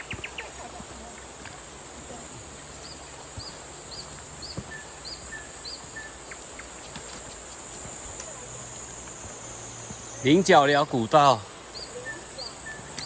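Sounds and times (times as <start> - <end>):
bird chirping: 0.0 - 13.0
insects chorus: 0.0 - 13.0.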